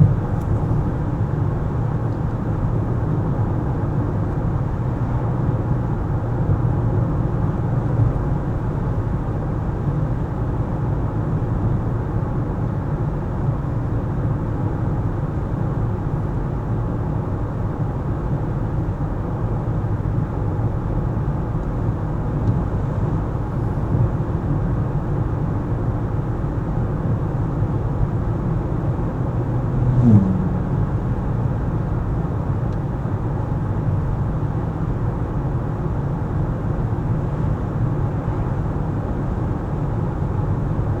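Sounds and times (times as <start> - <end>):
car road and engine noise: 0.0 - 41.0.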